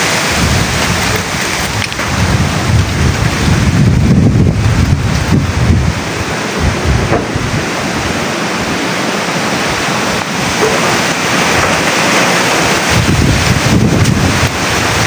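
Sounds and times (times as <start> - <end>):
wind rushing through trees: 0.0 - 15.0
wind buffeting microphone: 0.2 - 15.0.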